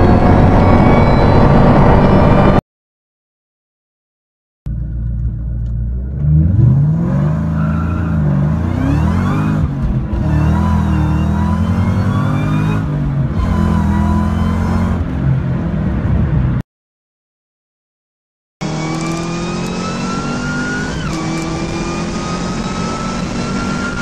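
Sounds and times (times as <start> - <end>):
car engine accelerating: 0.0 - 2.6, 4.7 - 16.6, 18.6 - 24.0
supercharger whine: 0.0 - 2.6, 4.7 - 16.6, 18.6 - 24.0.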